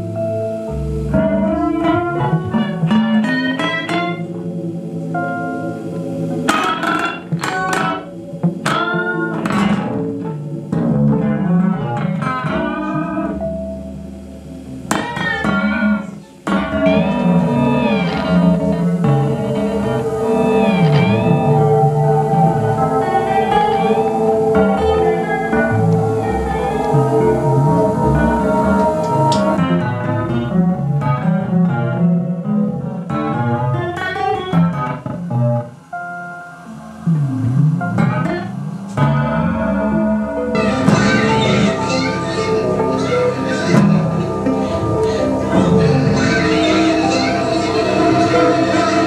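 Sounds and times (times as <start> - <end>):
electric guitar with effects: 0.0 - 49.0
plucked string instrument notes: 0.0 - 49.0.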